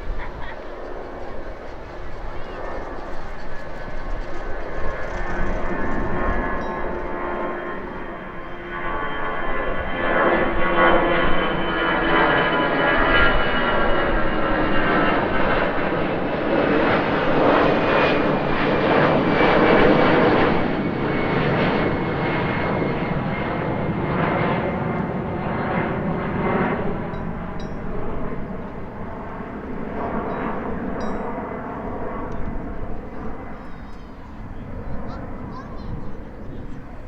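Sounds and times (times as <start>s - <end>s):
jet engines roaring with whine: 0.0s - 37.0s.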